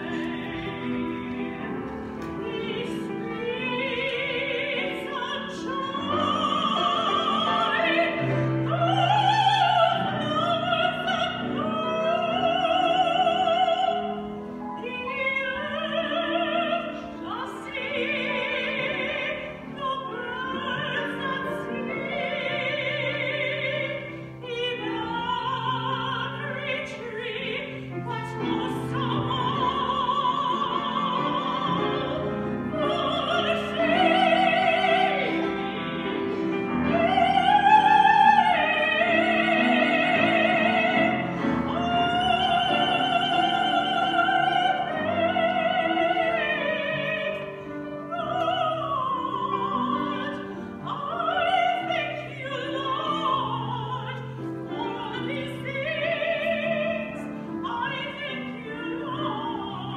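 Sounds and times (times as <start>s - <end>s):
grand piano: 0.0s - 59.9s
woman singing with vibrato: 0.0s - 59.9s.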